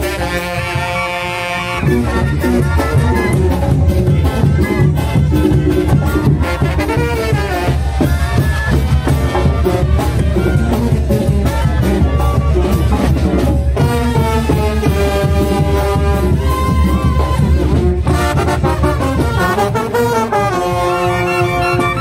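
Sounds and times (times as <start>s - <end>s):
brass band melody: 0.0s - 22.0s
steady drum beat: 0.0s - 22.0s.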